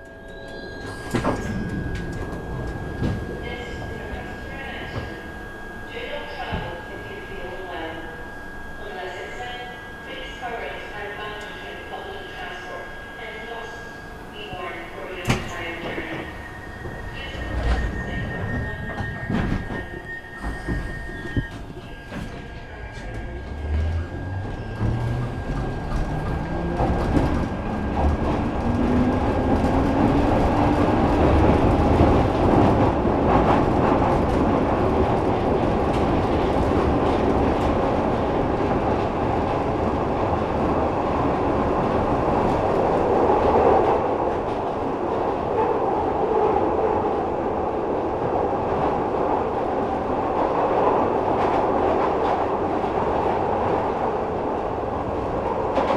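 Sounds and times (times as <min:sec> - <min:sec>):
subway train motor whine: 0:00.0 - 0:55.9
train rumble and wheel clatter: 0:00.0 - 0:55.9.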